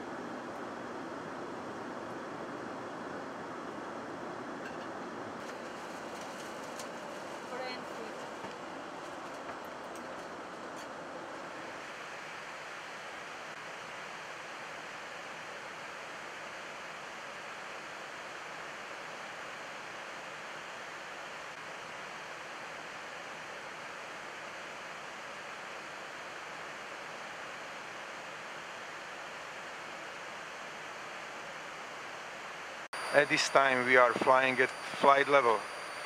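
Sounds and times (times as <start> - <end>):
air-conditioning noise: 0.0 - 36.0.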